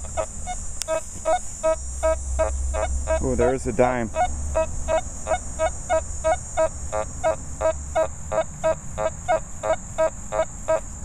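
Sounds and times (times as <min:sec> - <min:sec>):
cricket trill: 0:00.0 - 0:11.0.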